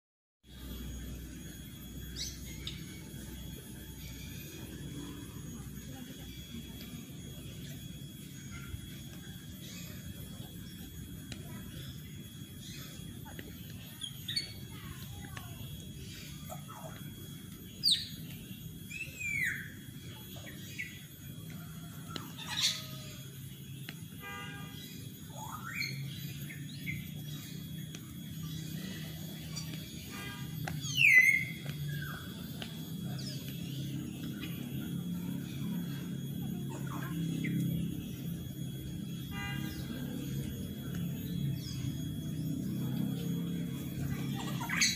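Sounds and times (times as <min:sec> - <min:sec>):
steady low hum: 0:00.4 - 0:44.9
faint bird chirps: 0:00.5 - 0:44.9.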